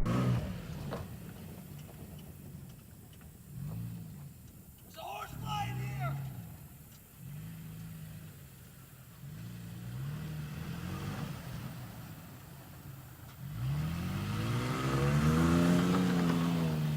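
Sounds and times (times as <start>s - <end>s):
pickup engine revving: 0.0s - 16.9s.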